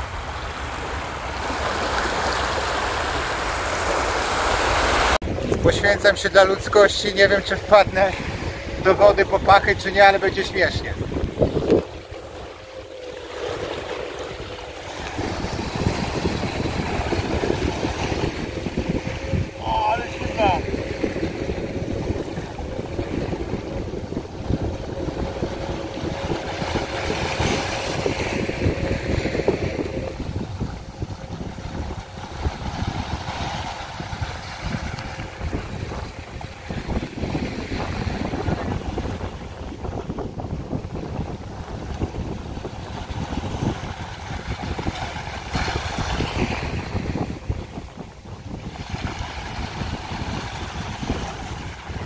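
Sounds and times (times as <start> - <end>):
faint motorboat hum: 0.0 - 52.0
small waves lapping on sand: 0.0 - 52.0
wind buffeting microphone: 0.0 - 52.0.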